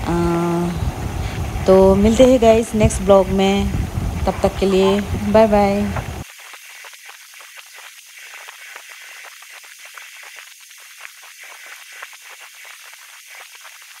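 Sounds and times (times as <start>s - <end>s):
faint crackles: 0.0s - 14.0s
steady hiss: 0.0s - 14.0s.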